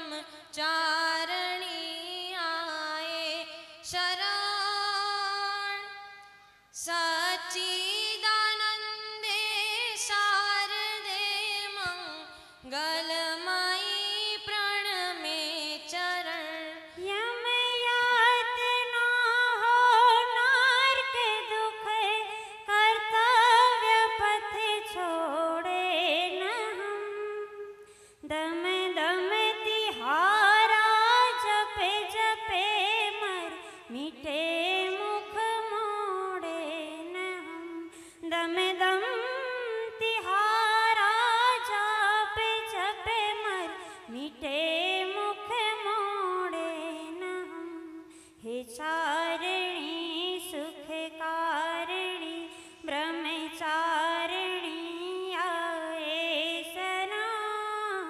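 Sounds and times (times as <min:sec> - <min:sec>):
woman singing a hymn: 0:00.0 - 0:05.9, 0:06.8 - 0:58.0.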